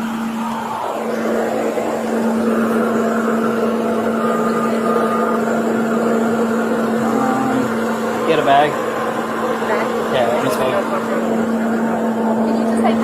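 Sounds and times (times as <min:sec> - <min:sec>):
motor vehicle hum: 0:00.0 - 0:13.0.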